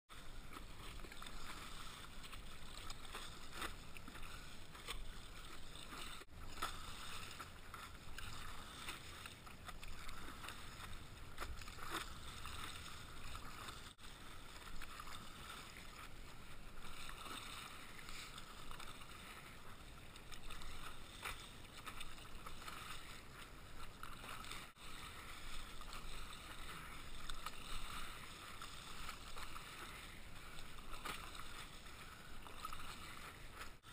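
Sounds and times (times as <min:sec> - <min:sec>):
paddle strokes in water: 0:00.1 - 0:33.9
water lapping against board: 0:00.1 - 0:33.9.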